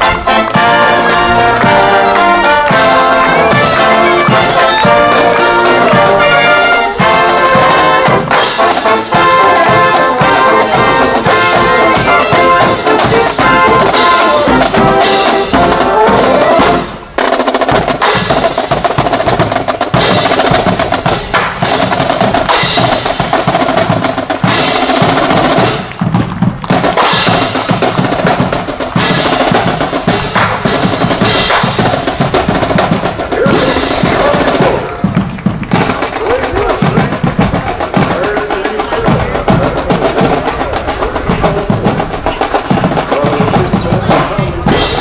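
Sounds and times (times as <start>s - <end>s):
brass band playing: 0.0s - 45.0s
snare and bass drums marching: 0.0s - 45.0s.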